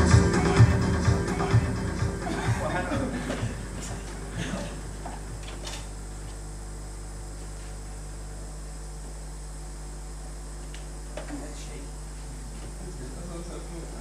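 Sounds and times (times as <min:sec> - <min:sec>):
low mains hum from speakers: 0:00.0 - 0:14.0.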